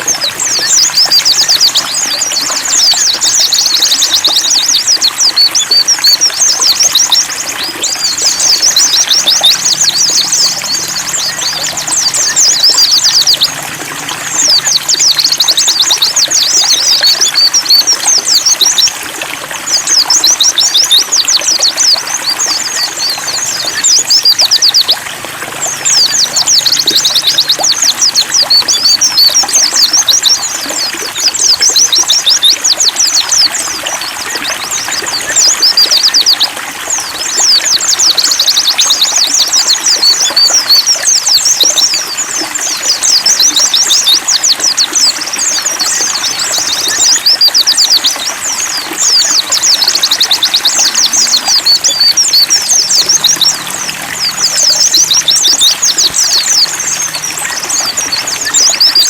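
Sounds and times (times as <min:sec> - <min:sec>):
birds twittering: 0:00.0 - 0:59.0
trickling water: 0:00.0 - 0:59.0.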